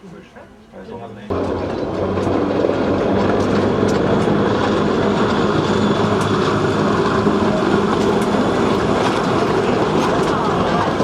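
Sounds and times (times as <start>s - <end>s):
train rumbling on track: 1.3s - 11.0s
wheels clicking: 1.3s - 11.0s.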